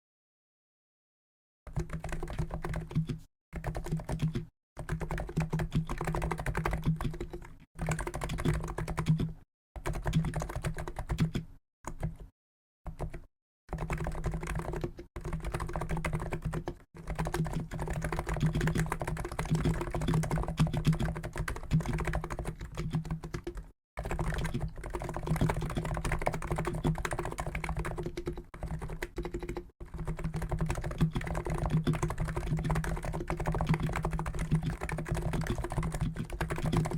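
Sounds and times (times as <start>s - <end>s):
fast typing on keyboard: 1.7s - 12.3s, 12.9s - 36.9s.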